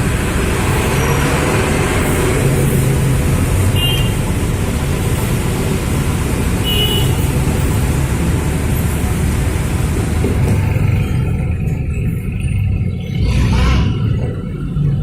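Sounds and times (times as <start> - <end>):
bus diesel engine running: 0.0 - 15.0
road and traffic noise: 0.0 - 15.0.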